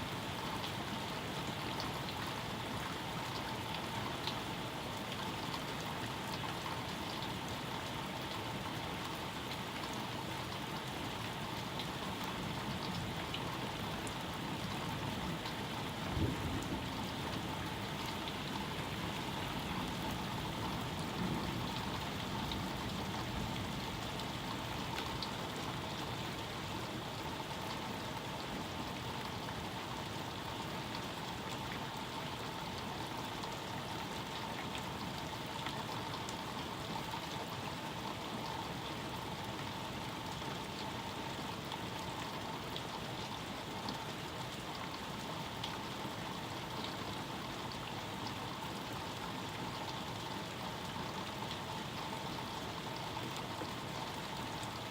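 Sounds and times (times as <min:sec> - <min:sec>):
rain pattering: 0:00.1 - 0:54.9.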